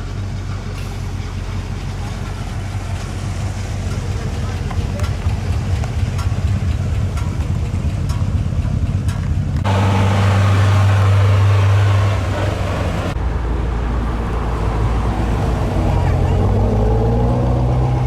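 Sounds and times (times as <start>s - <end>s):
car engines at low speed: 0.0s - 18.0s.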